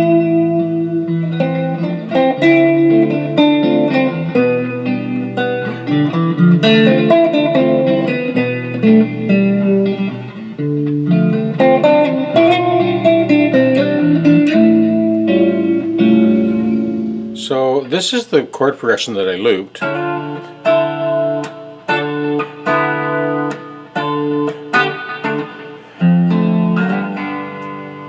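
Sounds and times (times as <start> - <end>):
electric guitar chord progression: 0.0 - 17.9, 19.8 - 28.0.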